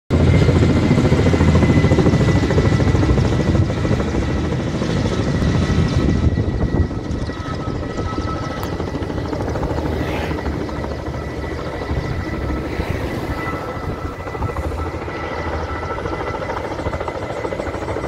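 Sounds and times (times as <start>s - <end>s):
helicopter rotors beating: 0.1s - 18.0s
high turbine whine: 0.1s - 18.0s.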